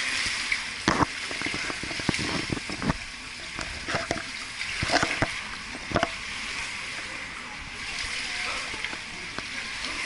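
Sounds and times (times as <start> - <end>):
sharp water splashes: 0.0 - 10.0
water washing: 0.0 - 10.0.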